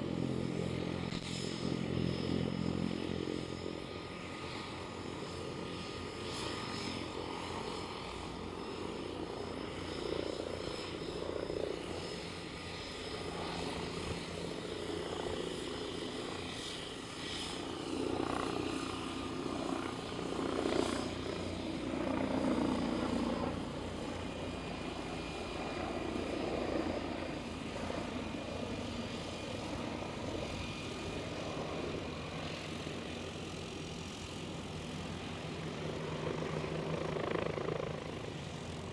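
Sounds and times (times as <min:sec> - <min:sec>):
plane engine and propeller: 0:00.0 - 0:38.9.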